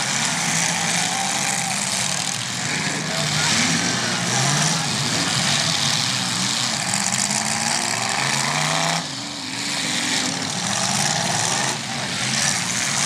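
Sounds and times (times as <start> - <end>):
car engines revving unevenly: 0.0 - 13.0.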